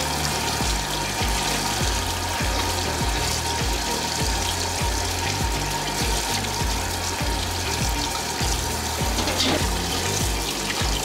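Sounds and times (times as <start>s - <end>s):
background music with low beat: 0.0s - 11.0s
hands rubbing and rinsing: 0.0s - 11.0s
tap water splashing in a pot: 0.0s - 11.0s.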